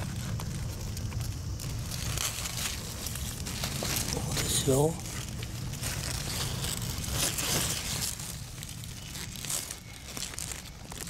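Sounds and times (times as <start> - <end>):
leaves rustling and crinkling: 0.0 - 11.0.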